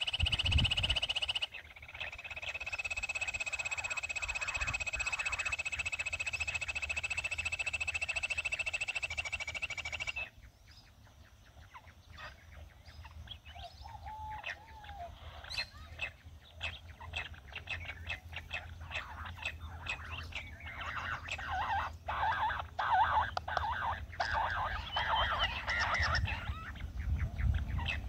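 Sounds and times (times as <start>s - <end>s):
quail chirping: 0.0s - 28.0s.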